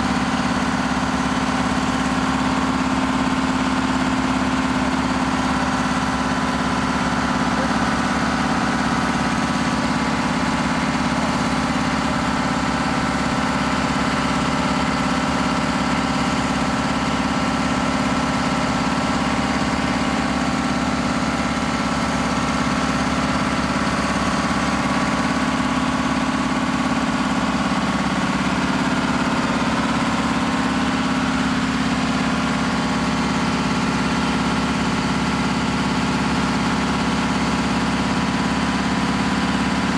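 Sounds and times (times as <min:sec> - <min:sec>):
fire truck engine running: 0:00.0 - 0:39.9.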